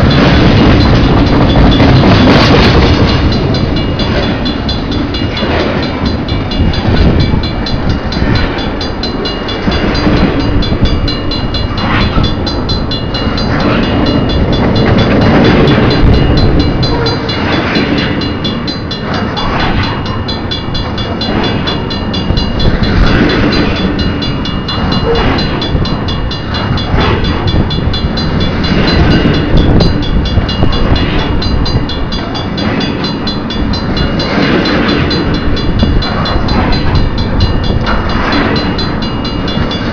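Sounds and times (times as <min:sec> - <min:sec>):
train rumbling past: 0:00.0 - 0:39.9
wheels clattering over rails: 0:00.0 - 0:39.9.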